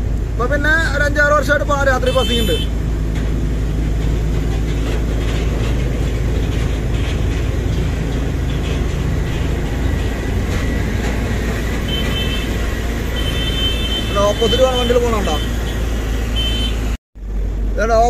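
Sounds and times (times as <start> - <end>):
road noise: 0.0 - 18.0
truck engine drone: 0.0 - 18.0.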